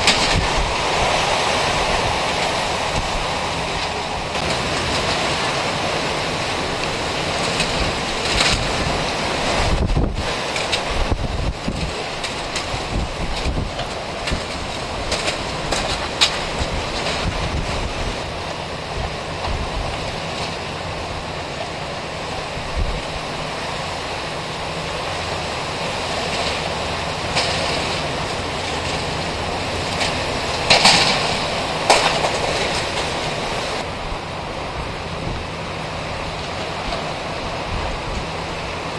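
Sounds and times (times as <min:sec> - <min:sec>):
storm wind roaring: 0:00.0 - 0:38.9.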